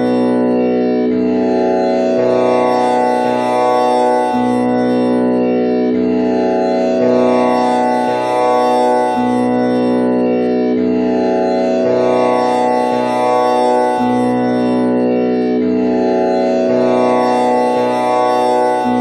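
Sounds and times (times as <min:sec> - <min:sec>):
tanpura drone: 0:00.0 - 0:19.0.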